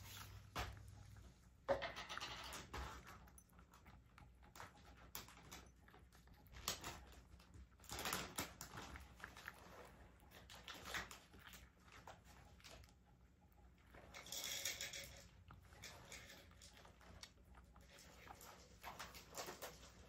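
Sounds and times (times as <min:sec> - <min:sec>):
cat chewing and crunching food: 0:00.0 - 0:20.0.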